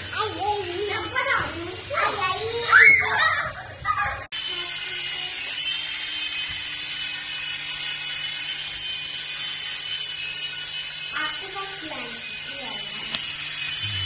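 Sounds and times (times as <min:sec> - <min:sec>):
toy helicopter motor whine: 0:00.0 - 0:14.0.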